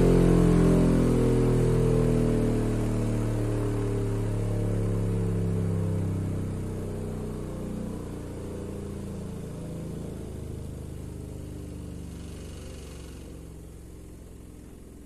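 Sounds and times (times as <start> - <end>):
subwoofer bass sweep hum: 0.0 - 15.0.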